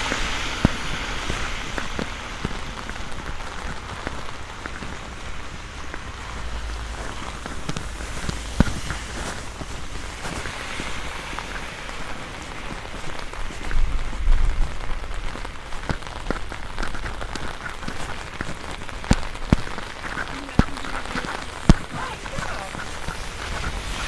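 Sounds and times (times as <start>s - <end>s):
low rumble: 0.0s - 17.4s, 18.6s - 24.0s
rain pattering on umbrella: 0.0s - 24.0s.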